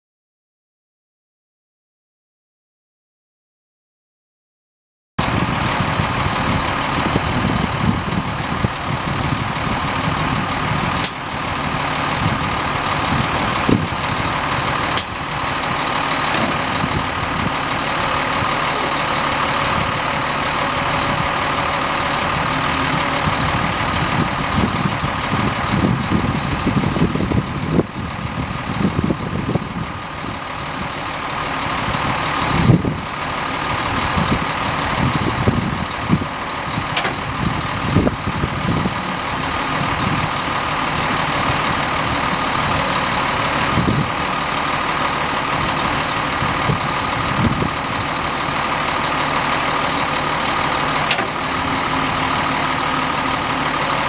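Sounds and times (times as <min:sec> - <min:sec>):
diesel truck engine idling: 0:05.2 - 0:54.0.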